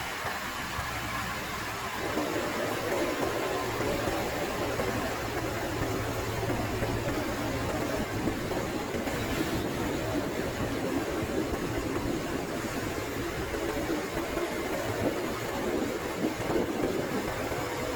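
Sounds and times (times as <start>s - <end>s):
vehicle engine and road noise: 0.0s - 17.9s.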